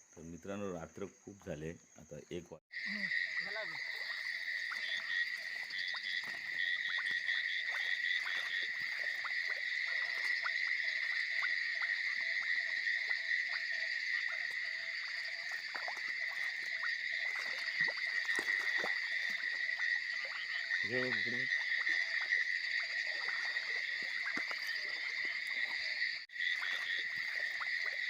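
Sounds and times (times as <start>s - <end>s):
frogs calling: 0.0s - 28.0s
high-pitched insect trill: 2.7s - 28.0s.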